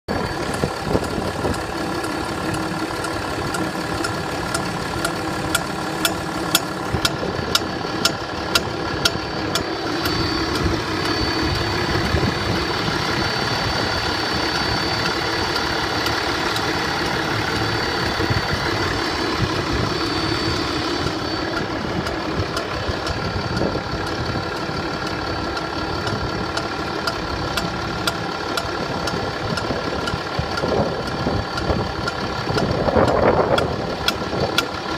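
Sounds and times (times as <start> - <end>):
engine idling: 0.0 - 34.9
engine knock tapping: 0.1 - 34.9.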